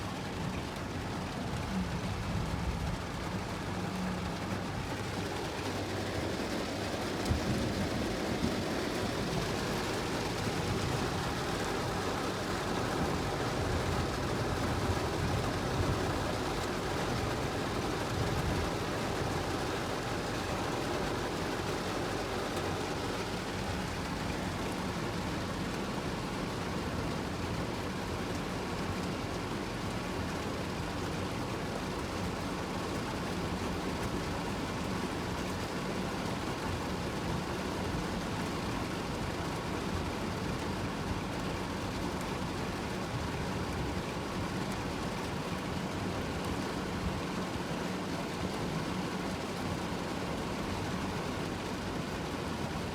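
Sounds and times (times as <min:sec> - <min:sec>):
engine and road rumble: 0:00.0 - 0:52.9
rain and tyre spray on road: 0:00.0 - 0:52.9.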